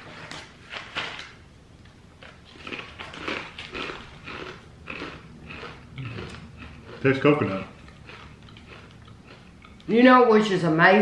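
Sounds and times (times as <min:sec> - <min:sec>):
crunching crisp crackers: 0:00.1 - 0:10.1.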